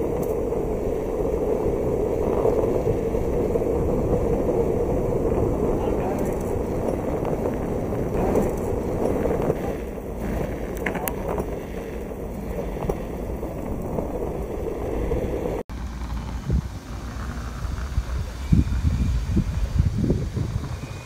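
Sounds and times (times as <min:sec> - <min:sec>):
skateboard wheels rumbling on pavement: 0:00.0 - 0:21.0
wind on microphone: 0:00.0 - 0:21.0.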